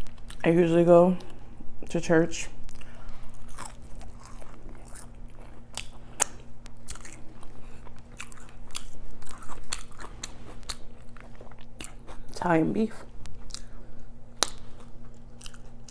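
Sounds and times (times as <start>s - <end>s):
chewing and crunching food: 0.0s - 1.5s, 2.6s - 15.9s
faint low hum: 0.0s - 15.9s.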